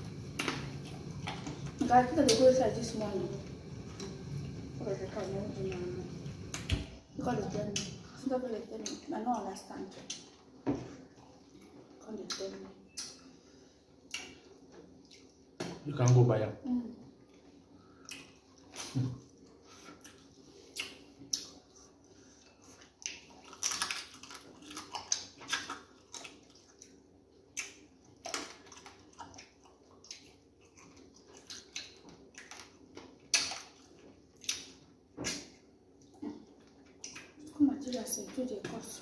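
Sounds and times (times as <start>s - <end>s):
wet eating and chewing: 0.0s - 6.8s, 7.5s - 16.2s, 17.1s - 39.0s.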